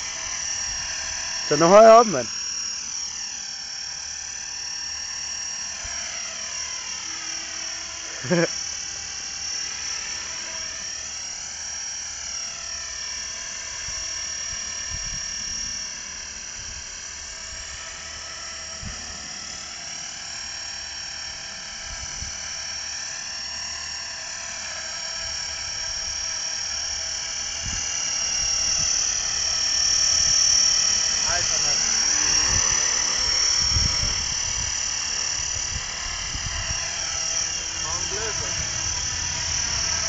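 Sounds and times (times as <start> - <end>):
rc helicopter motor whine: 0.0 - 40.0.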